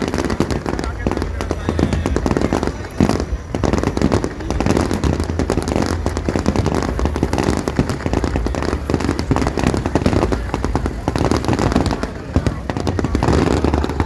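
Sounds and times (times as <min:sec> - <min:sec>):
fireworks pops and bangs: 0:00.0 - 0:14.0
low rumble: 0:00.0 - 0:14.0.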